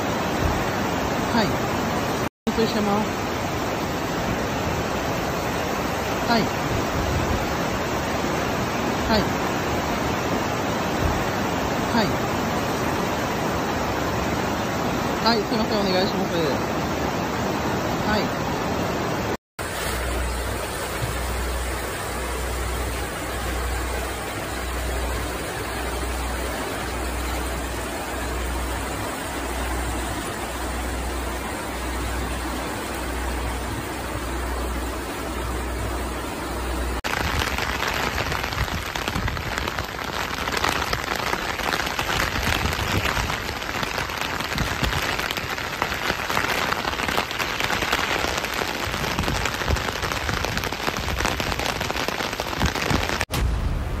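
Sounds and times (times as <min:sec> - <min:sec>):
floodwater rushing: 0:00.0 - 0:54.0
heavy rain on flooded street: 0:00.0 - 0:54.0.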